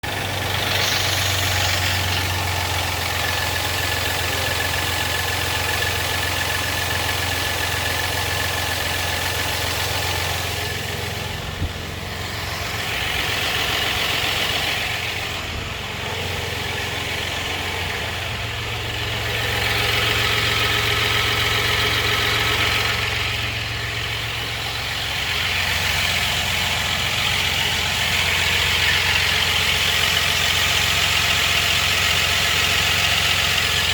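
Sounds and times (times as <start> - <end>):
engine idling with a rattle: 0.0 - 33.9.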